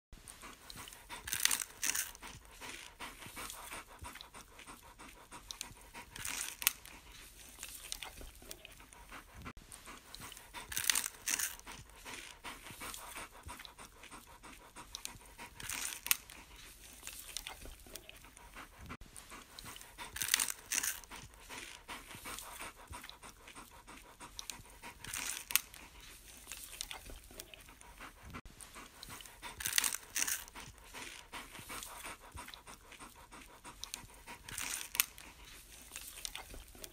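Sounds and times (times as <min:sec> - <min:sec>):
dog panting: 0:00.2 - 0:36.9.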